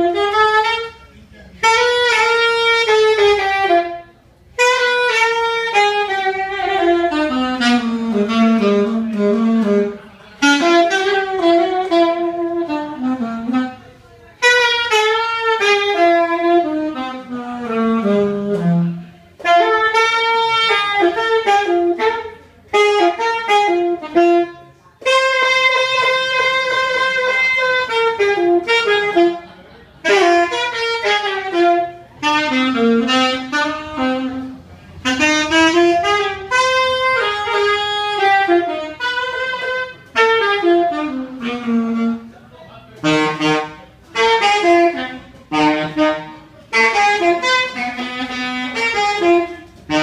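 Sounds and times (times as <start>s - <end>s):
solo saxophone melody: 0.0s - 50.0s.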